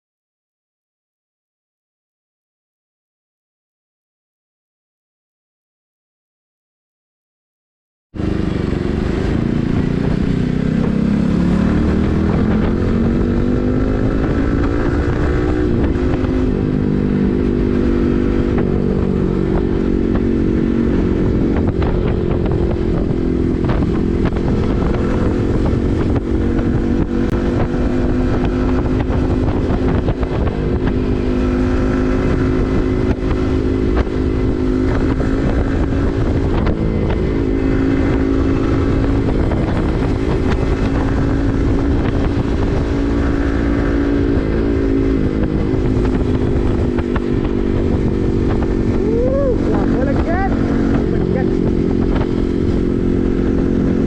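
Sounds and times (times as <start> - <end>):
motorcycle engine running: 8.2 - 54.0.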